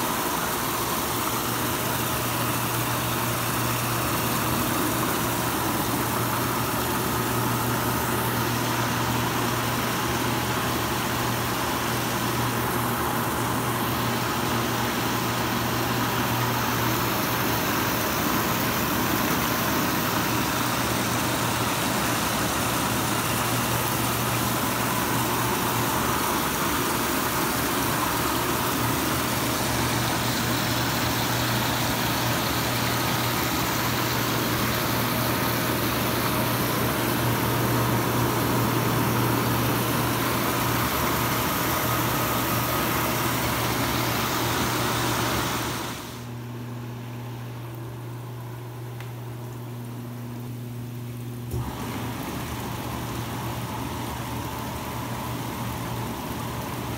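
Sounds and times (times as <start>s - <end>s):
pump motor hum: 0.0s - 56.9s.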